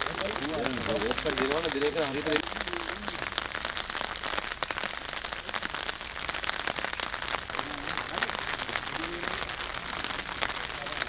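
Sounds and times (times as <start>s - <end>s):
faint voices: 0.0s - 6.1s, 7.0s - 11.0s
rain falling: 0.0s - 11.0s.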